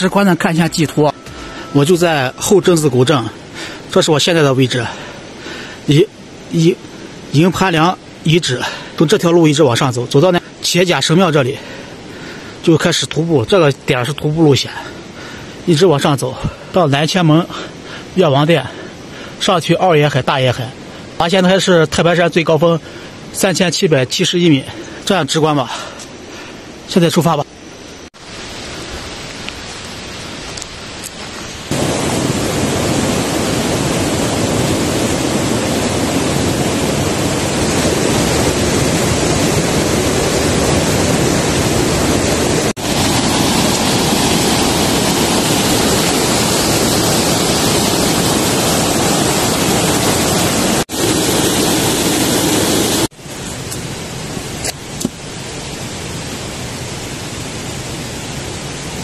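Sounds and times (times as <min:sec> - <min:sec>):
stream rushing over rocks: 0:00.0 - 0:27.4, 0:28.2 - 0:59.0.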